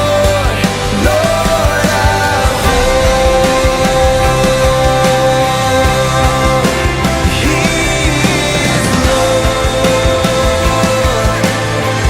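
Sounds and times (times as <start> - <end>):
drum beat thumps: 0.0 - 12.0
worship band playing: 0.0 - 12.0.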